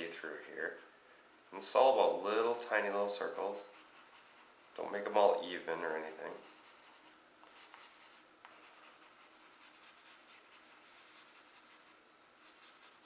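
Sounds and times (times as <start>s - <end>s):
charcoal scratching on paper: 0.0s - 0.9s, 3.4s - 13.0s.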